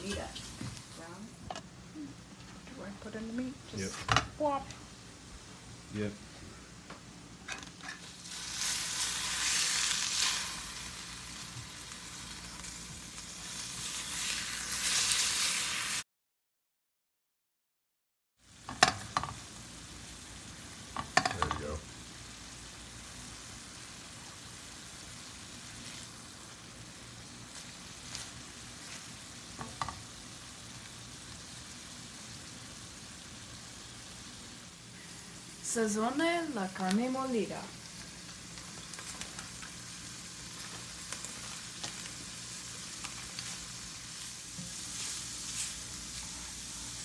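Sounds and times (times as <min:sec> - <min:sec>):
meat sizzling in a pan: 0:00.0 - 0:01.4, 0:07.5 - 0:16.0, 0:18.4 - 0:47.0.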